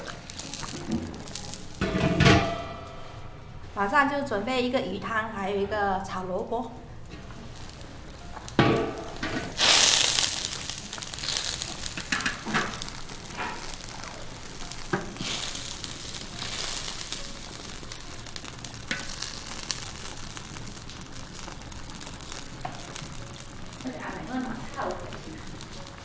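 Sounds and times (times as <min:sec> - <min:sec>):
broth bubbling and sizzling in a wok: 0:00.0 - 0:26.0.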